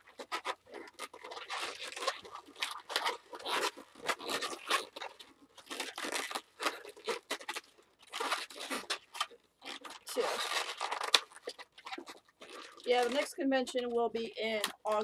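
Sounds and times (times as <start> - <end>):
balloon rubbing and crinkling: 0.0 - 15.0.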